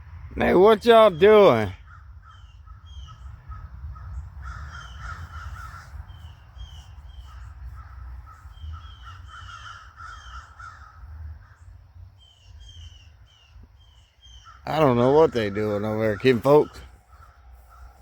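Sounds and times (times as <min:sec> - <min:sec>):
crows cawing: 0:01.5 - 0:11.9, 0:13.8 - 0:18.0.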